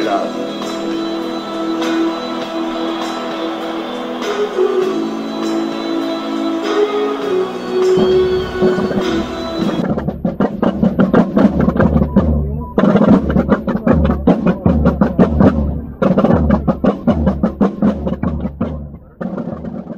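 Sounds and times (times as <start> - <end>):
military side drums beating: 0.0 - 19.9.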